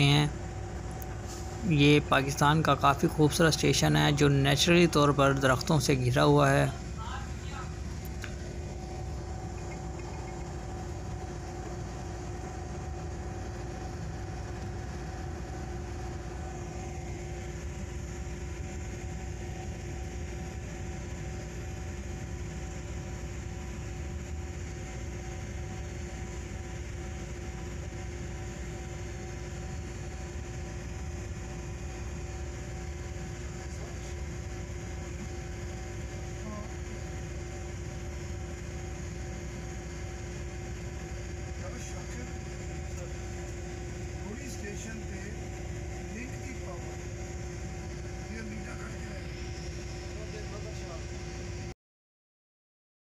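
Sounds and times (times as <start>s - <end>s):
diesel locomotive engine drone: 0.0s - 51.3s
constant hum: 0.0s - 51.7s.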